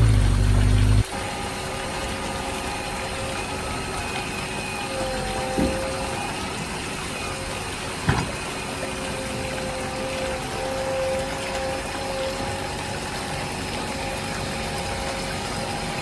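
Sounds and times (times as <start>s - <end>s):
water hissing: 0.0s - 16.0s
water pump motor whine: 0.0s - 16.0s.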